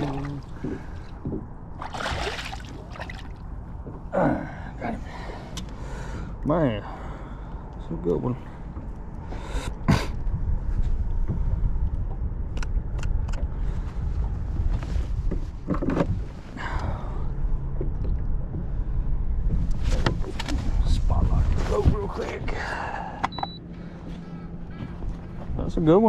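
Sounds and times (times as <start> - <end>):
wind and water rumble: 0.0 - 26.0.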